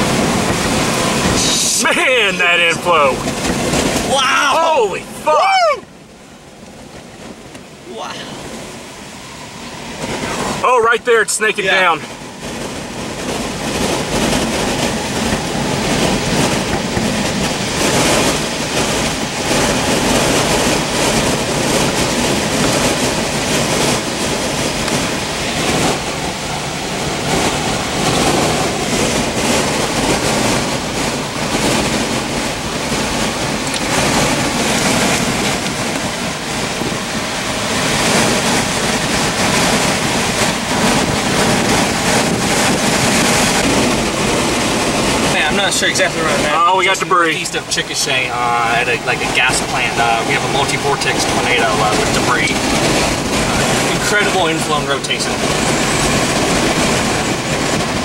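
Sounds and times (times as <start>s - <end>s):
strong gusty wind: 0.0s - 58.0s.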